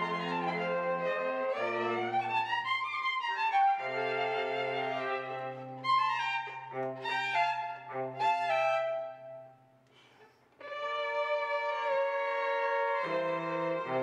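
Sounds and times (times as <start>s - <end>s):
string ensemble playing classical music: 0.0s - 9.6s, 10.6s - 14.0s.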